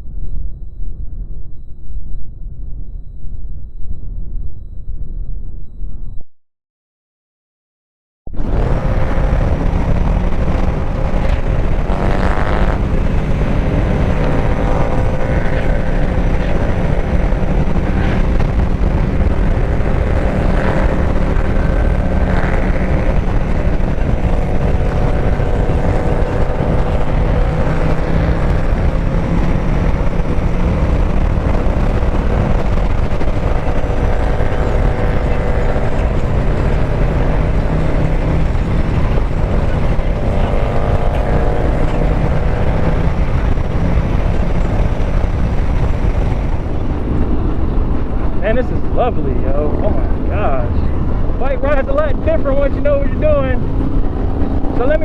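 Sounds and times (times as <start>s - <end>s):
wind on microphone: 8.3s - 55.0s
motorcycle engine running: 8.4s - 55.0s.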